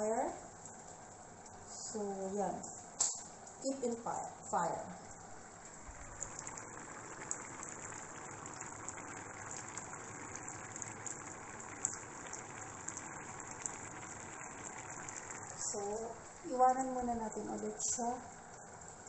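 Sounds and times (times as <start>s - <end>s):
broth boiling in a pot: 0.0s - 19.0s.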